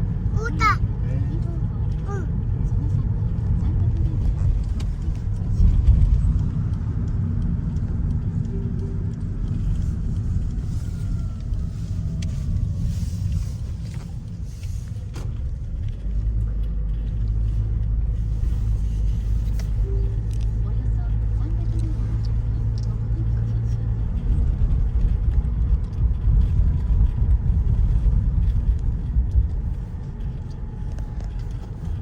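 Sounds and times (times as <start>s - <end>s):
vehicle rumbling in motion: 0.0s - 32.0s.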